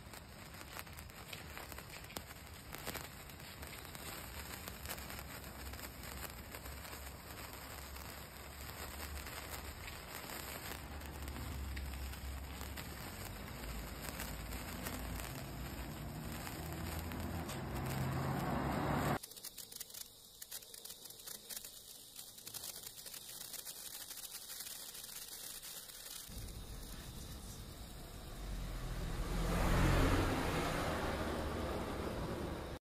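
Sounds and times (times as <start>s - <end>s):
sparklers fizzing and crackling: 0.0s - 32.8s.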